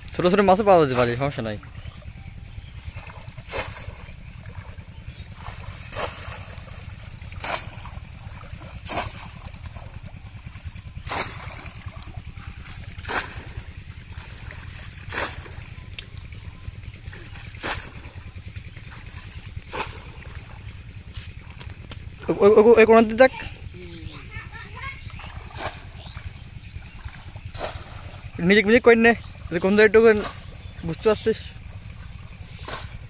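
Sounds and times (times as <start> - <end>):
steady low rumble: 0.0 - 33.0
fish trap splashing in water: 0.1 - 22.4, 25.0 - 28.6, 29.2 - 33.0.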